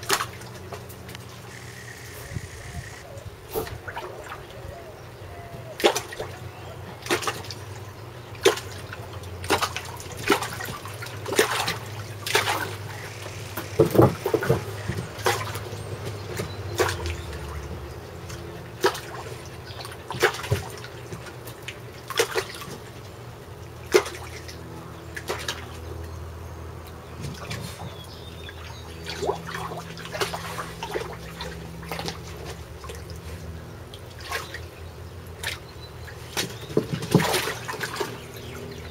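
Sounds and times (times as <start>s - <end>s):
water splashing and dripping: 0.0s - 1.7s, 5.5s - 26.1s, 26.8s - 38.9s.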